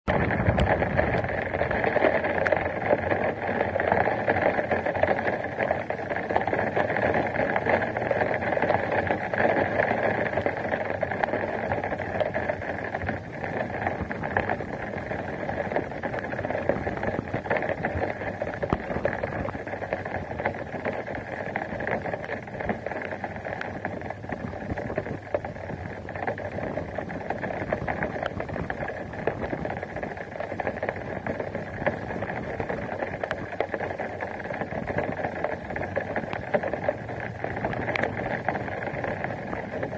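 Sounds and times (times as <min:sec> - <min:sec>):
wind noise: 0:00.0 - 0:39.9
rain patter: 0:00.1 - 0:39.9.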